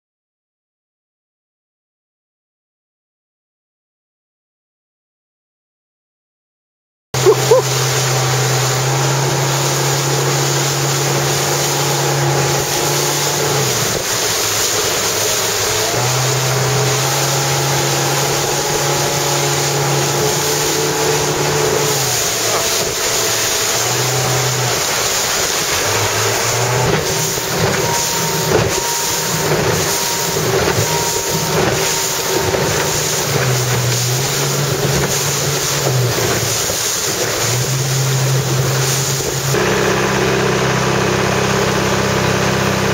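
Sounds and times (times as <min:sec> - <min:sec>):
motorboat engine running: 0:07.2 - 0:42.9
rushing water: 0:07.2 - 0:42.9.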